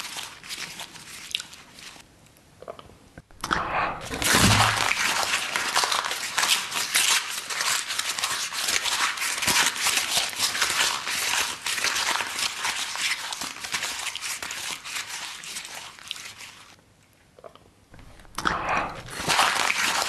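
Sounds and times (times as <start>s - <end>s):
chewing cardboard crunching: 0.0s - 2.0s, 4.0s - 16.8s, 18.0s - 20.0s.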